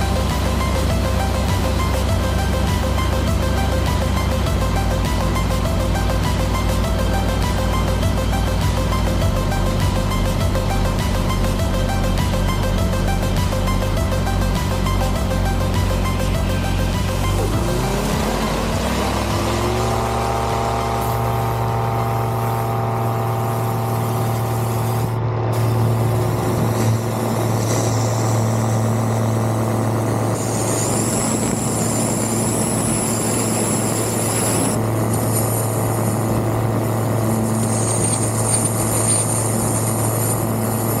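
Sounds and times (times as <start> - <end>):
light aircraft engine and propeller: 0.0 - 41.0.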